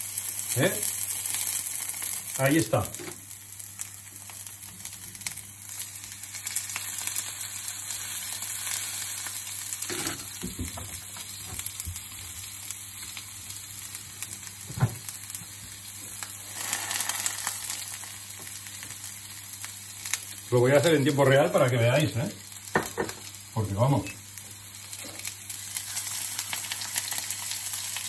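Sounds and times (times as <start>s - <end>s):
artichokes sizzling in oil: 0.0s - 28.0s.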